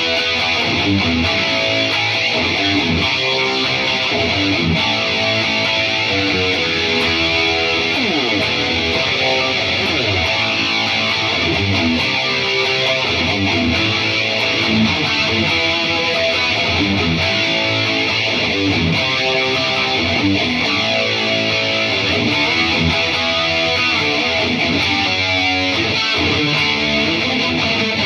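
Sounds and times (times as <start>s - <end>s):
electric guitar noodling: 0.0s - 28.0s.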